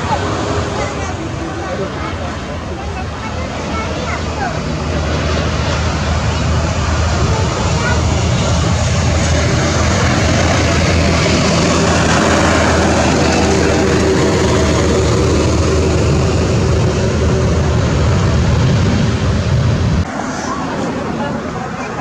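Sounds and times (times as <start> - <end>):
jet engines of landing airliner: 0.0 - 22.0.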